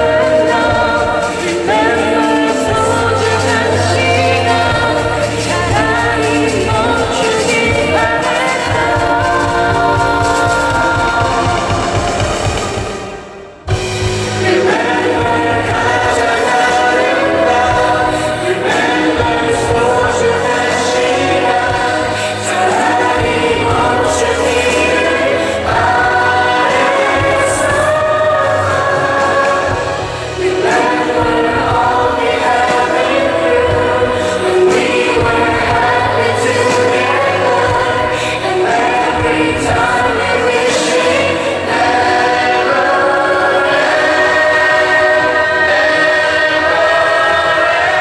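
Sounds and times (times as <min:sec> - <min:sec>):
choir singing held notes: 0:00.0 - 0:48.0
musical backing: 0:00.0 - 0:48.0.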